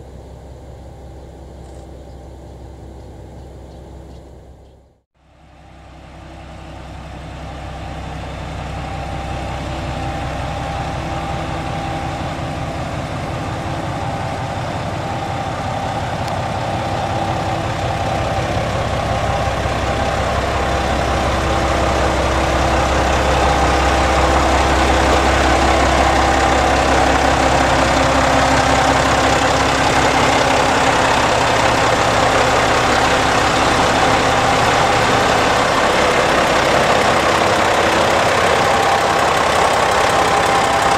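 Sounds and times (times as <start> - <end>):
diesel train engines humming: 0.0 - 40.9.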